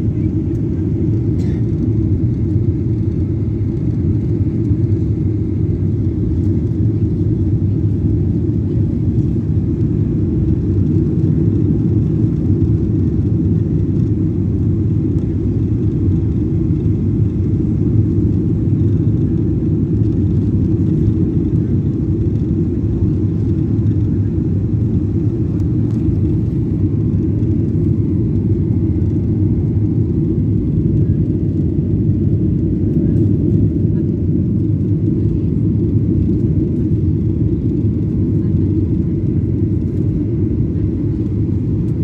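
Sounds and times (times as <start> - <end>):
jet airliner cabin rumble: 0.0 - 42.0.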